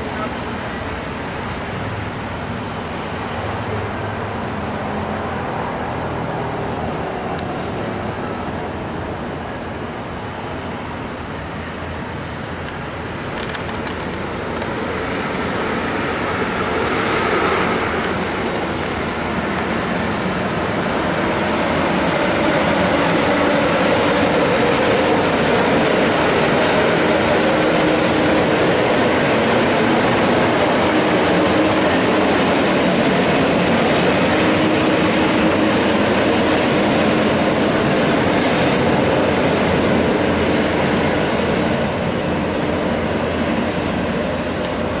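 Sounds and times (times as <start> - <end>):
diesel trucks engine and road noise: 0.0 - 45.0.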